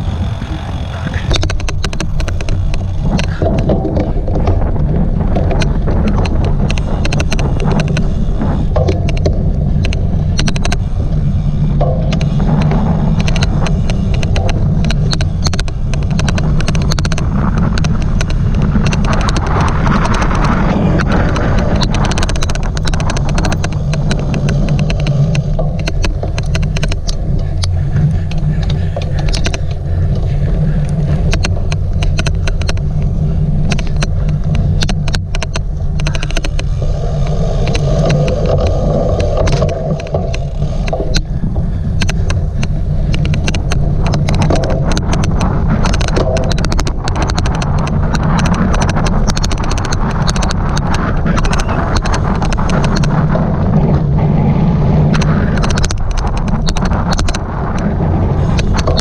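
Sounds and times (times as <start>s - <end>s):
bike rumbling over rough ground: 0.0s - 59.0s
sharp clicks: 0.0s - 59.0s.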